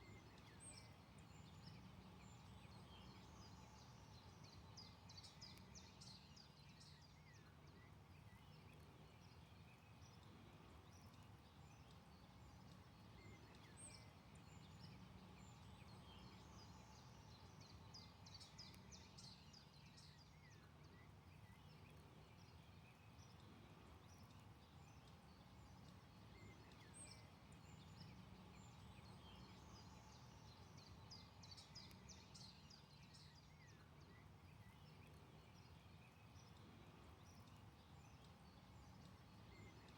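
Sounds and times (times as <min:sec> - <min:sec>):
faint birdsong chirps and trills: 0:00.0 - 0:39.9.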